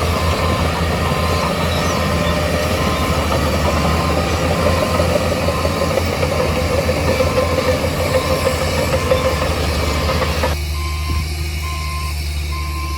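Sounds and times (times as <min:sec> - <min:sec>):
heavy diesel machinery rumbling: 0:00.0 - 0:12.9.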